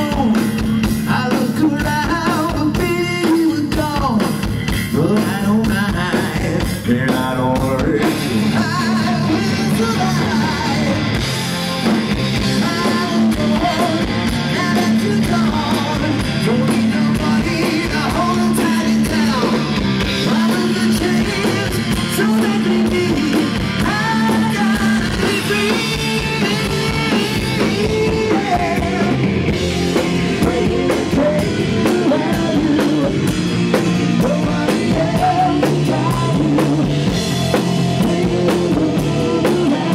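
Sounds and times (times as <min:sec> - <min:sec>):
hard rock band playing: 0:00.0 - 0:39.9.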